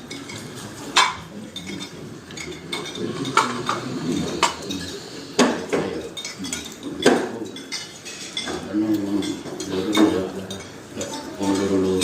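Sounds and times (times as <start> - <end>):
cutlery clinking on plates: 0.0 - 12.0
low background murmur: 0.0 - 12.0.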